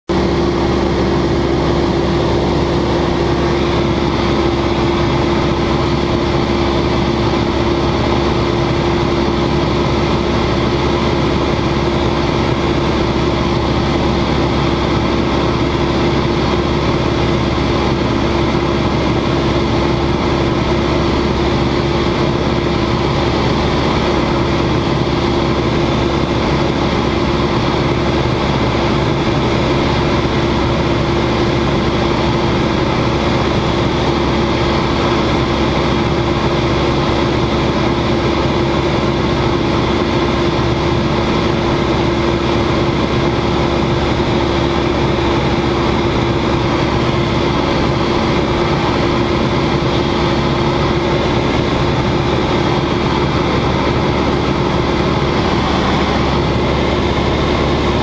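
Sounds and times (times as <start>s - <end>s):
airflow noise: 0.1s - 58.0s
propeller engine drone: 0.1s - 58.0s.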